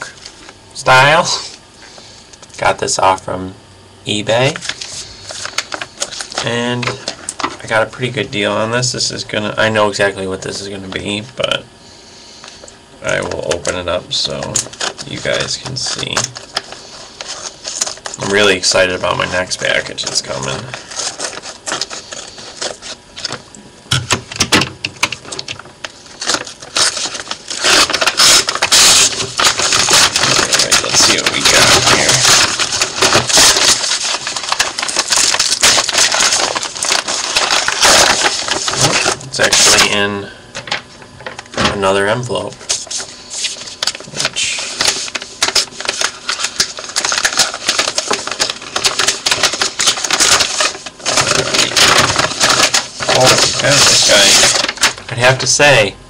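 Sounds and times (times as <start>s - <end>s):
packaging crinkling and tearing: 4.5s - 8.2s, 12.5s - 55.6s.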